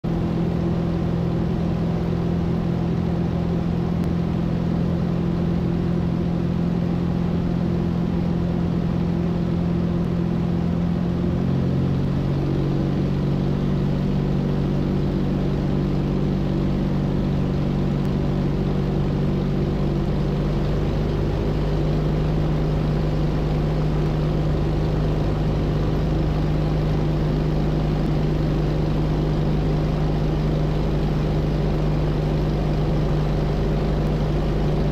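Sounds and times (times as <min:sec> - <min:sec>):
aircraft engine droning: 0:00.0 - 0:34.9.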